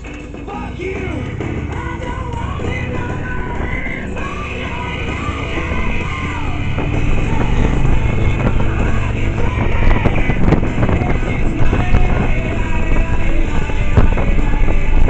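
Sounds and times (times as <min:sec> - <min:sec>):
motorcycle engine drone: 0:00.0 - 0:15.0
rock music with shouted vocals: 0:00.0 - 0:15.0
wind: 0:00.0 - 0:15.0.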